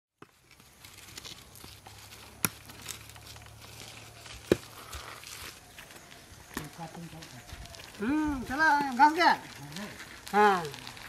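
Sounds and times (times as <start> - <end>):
faint crackling and rustling: 0.2 - 11.0.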